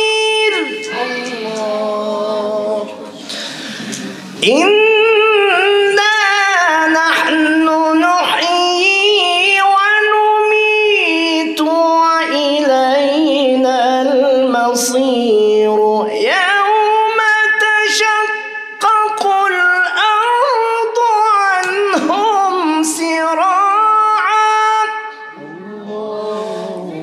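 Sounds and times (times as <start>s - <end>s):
man reciting melodically: 0.0s - 27.0s.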